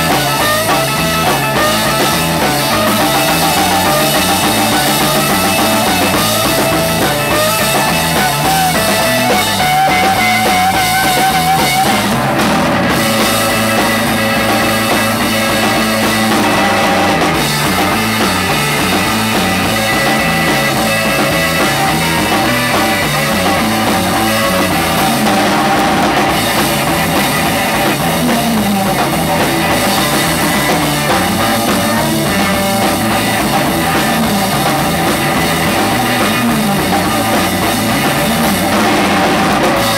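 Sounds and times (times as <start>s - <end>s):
drum kit: 0.0s - 39.9s
electric guitar lead melody: 0.0s - 39.9s.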